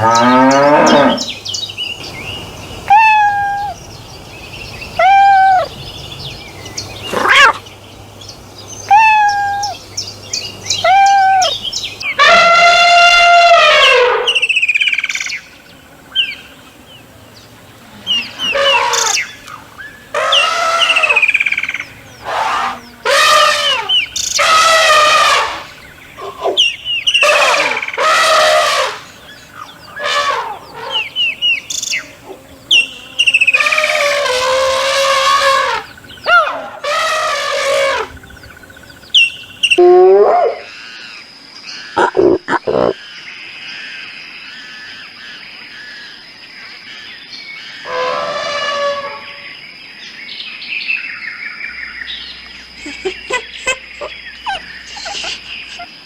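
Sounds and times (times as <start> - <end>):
loud bird calls: 0.0 - 56.0.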